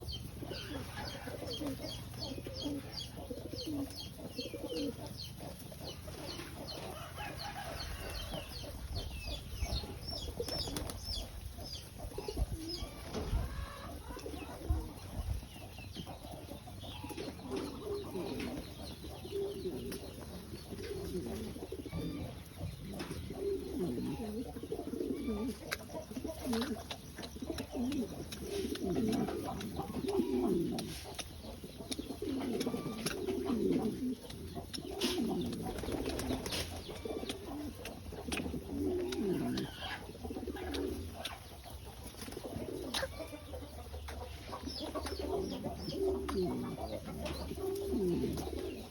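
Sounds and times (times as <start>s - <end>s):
pigeons cooing: 0.0s - 48.9s.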